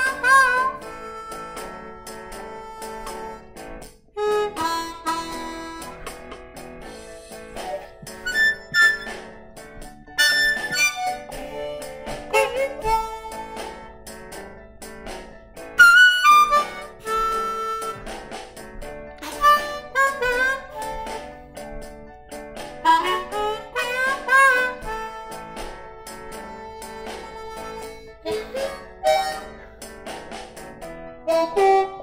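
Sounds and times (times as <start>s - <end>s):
blues harmonica: 0.0s - 32.0s.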